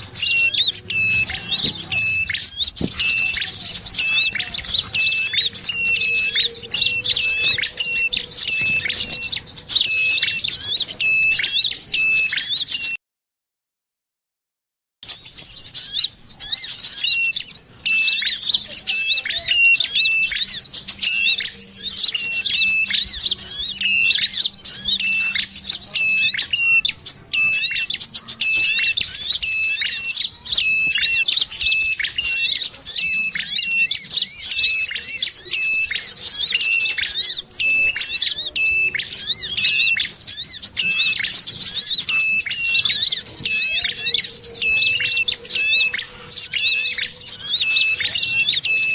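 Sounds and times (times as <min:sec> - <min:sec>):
small birds chattering and chirping: 0:00.0 - 0:13.0, 0:15.0 - 0:48.9.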